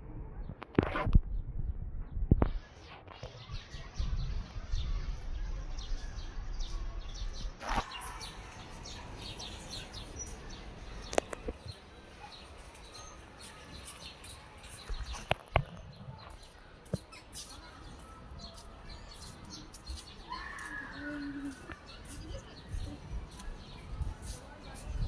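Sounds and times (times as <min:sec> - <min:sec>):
high chirping calls of small animals: 0:03.4 - 0:15.4, 0:16.2 - 0:25.0.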